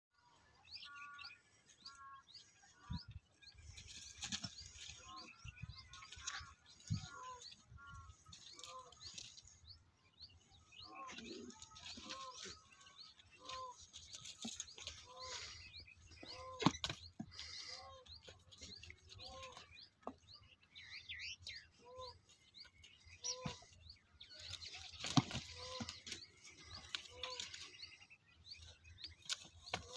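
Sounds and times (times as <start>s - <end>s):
small birds chirping: 0.2s - 29.9s.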